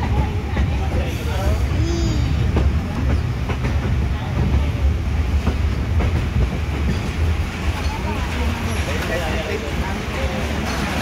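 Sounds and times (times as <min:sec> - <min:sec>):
train rumble inside carriage: 0:00.0 - 0:11.0
wheels clacking over rails: 0:01.8 - 0:11.0.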